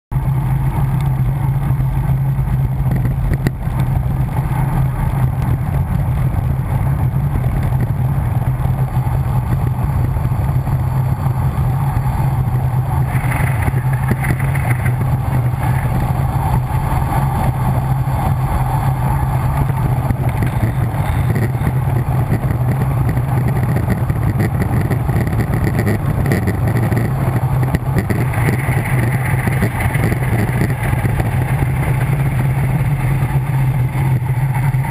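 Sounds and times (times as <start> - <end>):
tyres humming on tarmac: 0.1 - 34.9
wind rushing over microphone: 0.2 - 34.9.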